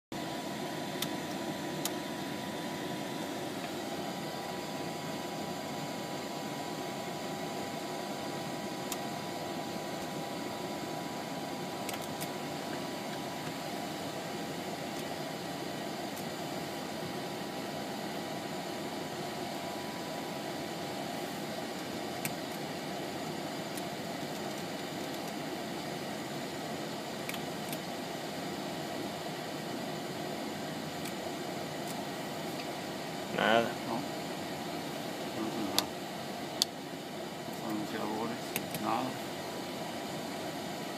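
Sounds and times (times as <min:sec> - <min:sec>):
auxiliary power unit running: 0:00.1 - 0:40.9
faint steady whine: 0:00.1 - 0:40.9.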